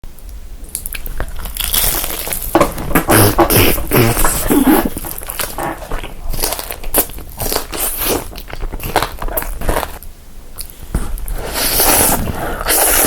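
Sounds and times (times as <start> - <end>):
crunching crisp food: 0.7 - 13.0
packaging crinkling: 0.9 - 11.4.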